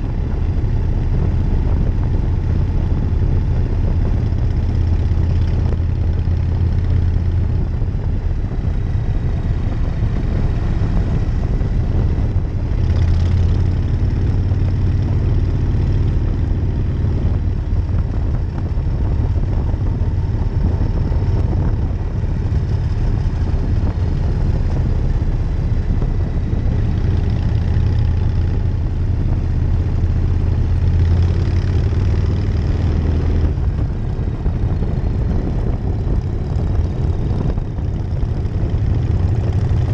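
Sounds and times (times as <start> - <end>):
motorcycle engine running: 0.0 - 39.9
rushing wind noise: 0.0 - 39.9.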